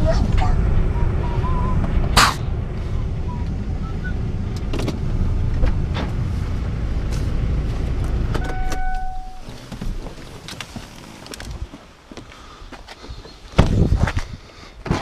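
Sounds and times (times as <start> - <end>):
car engine idling: 0.0 - 12.2.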